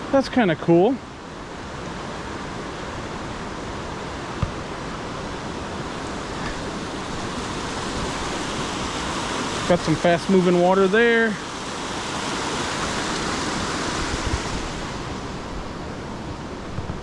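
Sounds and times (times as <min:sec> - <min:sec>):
rushing water of waterfall and rapids: 0:00.0 - 0:17.0.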